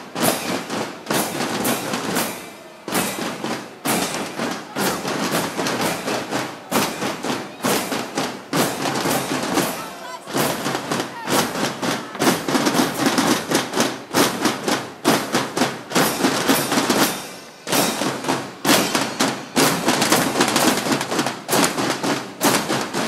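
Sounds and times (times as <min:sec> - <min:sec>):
snare drums marching rhythm: 0:00.0 - 0:23.0.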